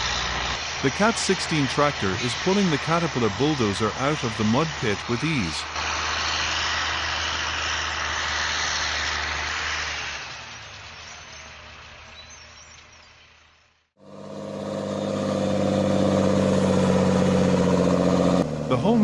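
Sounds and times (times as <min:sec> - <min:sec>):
diesel machinery engine drone: 0:00.0 - 0:12.7, 0:13.9 - 0:19.0
engine humming: 0:00.0 - 0:19.0.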